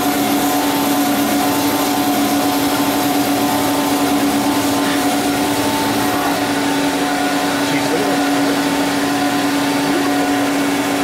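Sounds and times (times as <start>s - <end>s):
bandsaw cutting steel: 0.0s - 11.0s.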